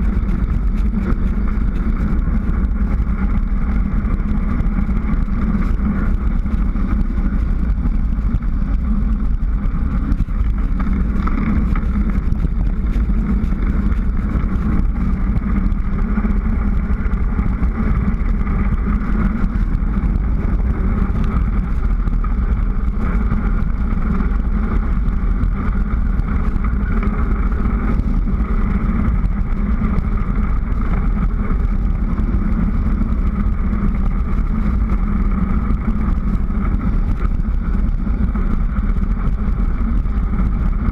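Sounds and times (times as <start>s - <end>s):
tyres on asphalt: 0.0s - 40.9s.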